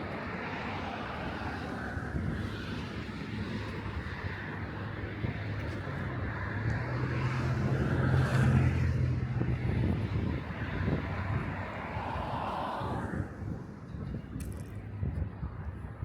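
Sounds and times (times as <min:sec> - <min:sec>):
passing vehicle engine hum: 0:00.0 - 0:14.1.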